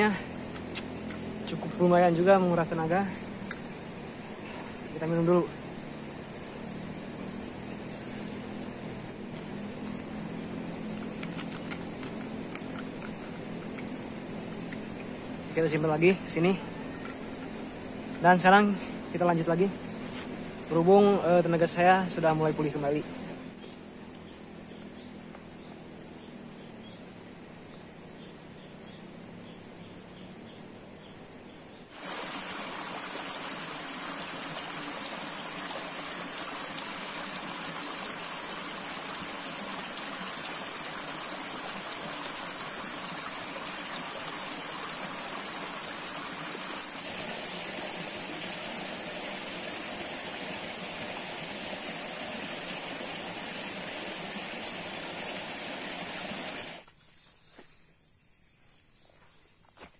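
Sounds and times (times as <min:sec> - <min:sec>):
stream water rushing: 0:00.0 - 0:23.6, 0:31.9 - 0:56.9.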